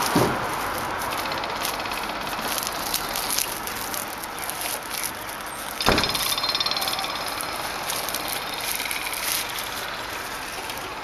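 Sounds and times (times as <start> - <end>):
straw rustling and crackling: 0.0 - 11.0.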